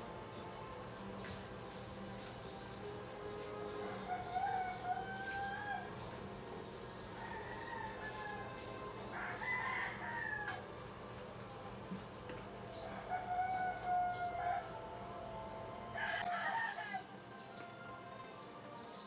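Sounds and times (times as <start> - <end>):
roosters crowing: 0.0 - 11.1, 12.4 - 19.0
faint steady hum: 0.0 - 19.0.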